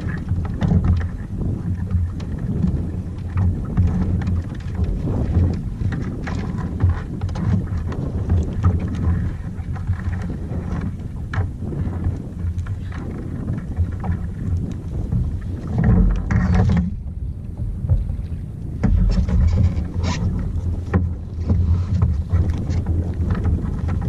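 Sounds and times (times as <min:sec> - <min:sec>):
water splashing around kayak: 0:00.0 - 0:24.0
wind buffeting microphone: 0:00.0 - 0:24.0.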